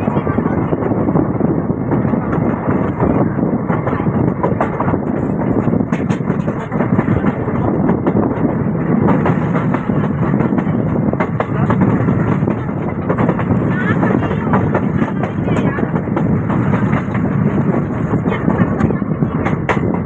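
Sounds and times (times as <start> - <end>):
train wheels rumbling on rail: 0.0 - 20.0
wind rushing past window: 0.0 - 20.0.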